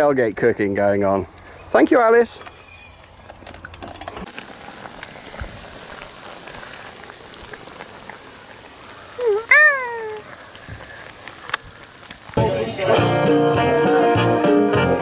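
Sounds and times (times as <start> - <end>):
stew bubbling and crackling: 0.0 - 13.5.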